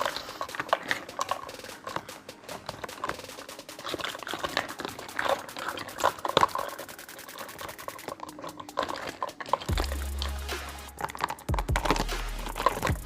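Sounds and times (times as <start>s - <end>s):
small toy pieces clicking: 0.0s - 13.0s.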